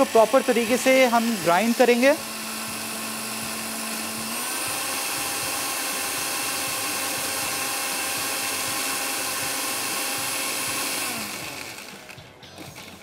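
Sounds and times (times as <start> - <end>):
electric blender grinding: 0.0 - 13.0.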